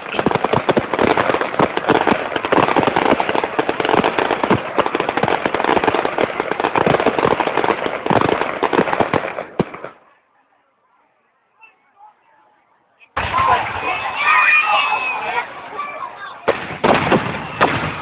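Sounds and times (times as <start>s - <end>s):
fireworks cracking and banging: 0.0s - 10.2s, 13.0s - 18.0s.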